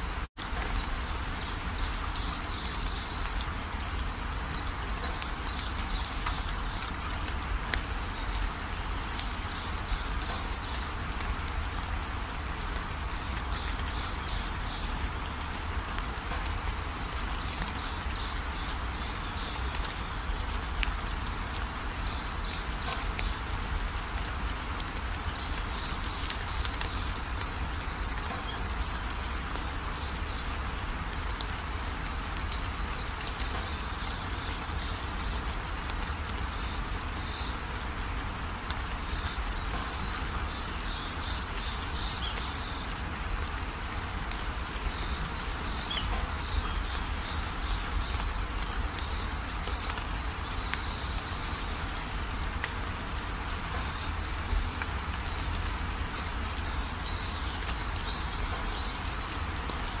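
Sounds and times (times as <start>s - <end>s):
steady rain-like hiss: 0.0s - 60.0s.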